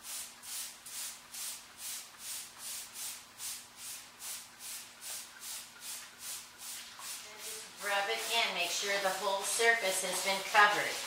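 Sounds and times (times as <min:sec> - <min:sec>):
spray bottle hissing strokes: 0:00.0 - 0:11.0.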